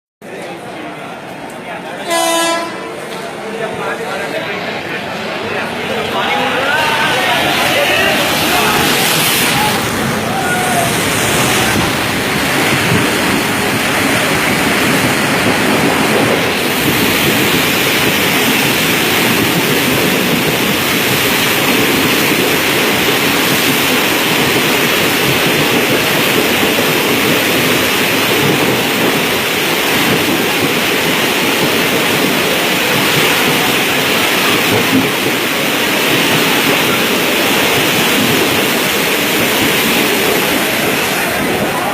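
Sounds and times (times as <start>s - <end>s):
train running: 0.2s - 41.9s
water rushing: 5.0s - 41.9s.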